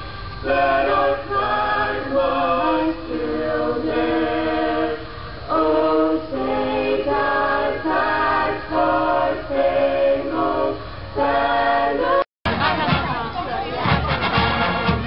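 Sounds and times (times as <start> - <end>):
vocal quartet singing: 0.0 - 13.6.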